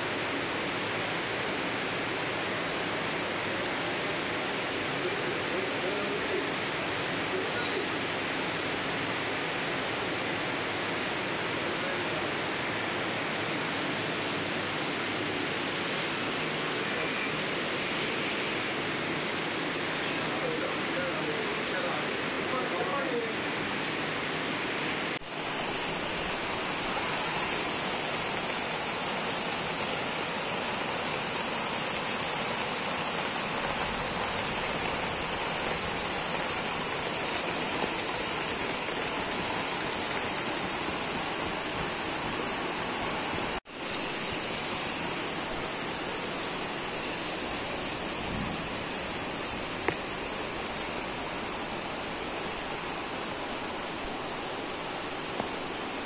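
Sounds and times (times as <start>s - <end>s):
floodwater flowing: 0.0s - 56.0s
heavy rain: 0.0s - 56.0s.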